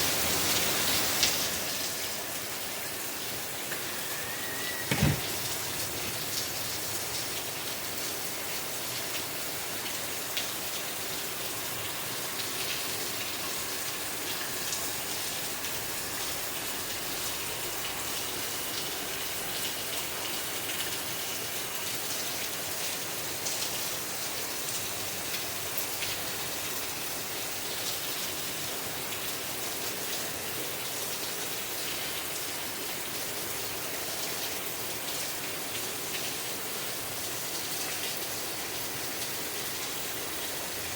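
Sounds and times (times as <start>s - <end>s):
rain pattering: 0.0s - 4.4s, 5.0s - 40.9s.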